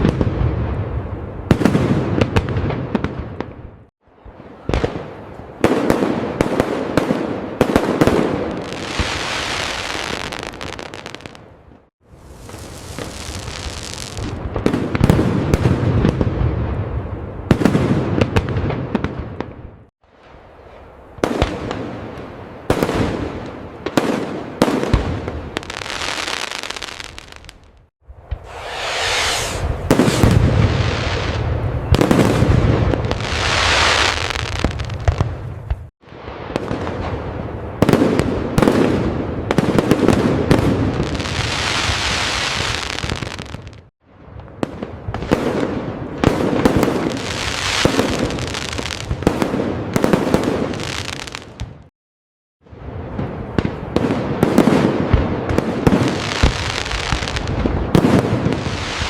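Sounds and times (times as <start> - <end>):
fireworks booms and crackling: 0.0 - 51.9, 52.6 - 59.0.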